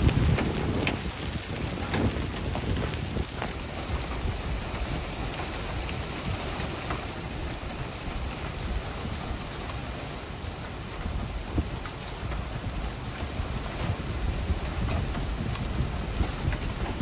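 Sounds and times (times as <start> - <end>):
faint ticks of hail: 0.0 - 17.0
heavy rain on pavement: 0.0 - 17.0.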